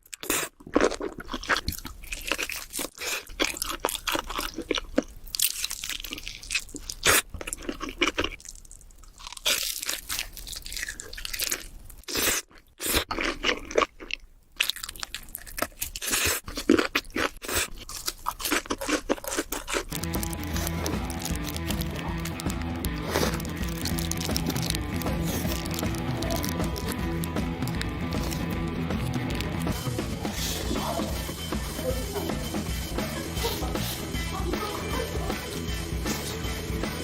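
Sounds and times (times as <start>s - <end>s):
person chewing crunchy food: 0.0s - 31.7s.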